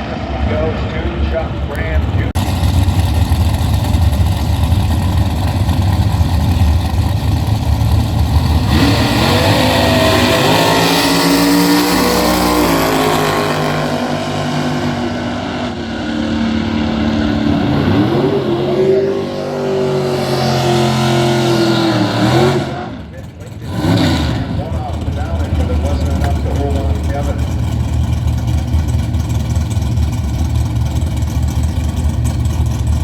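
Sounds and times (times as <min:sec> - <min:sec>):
drag racing engines roaring: 0:00.0 - 0:33.0.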